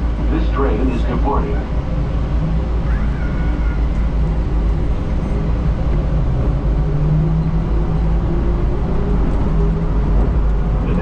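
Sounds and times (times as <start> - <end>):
train tyres rumbling: 0.0 - 11.0.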